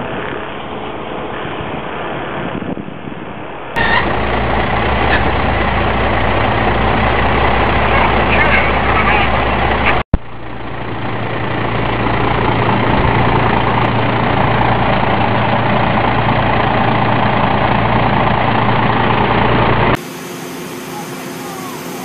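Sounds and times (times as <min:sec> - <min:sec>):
heavy diesel engine running: 0:03.8 - 0:22.0.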